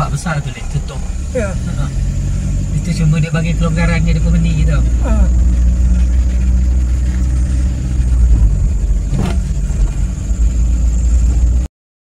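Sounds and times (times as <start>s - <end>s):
car engine and road noise: 0.0s - 11.7s.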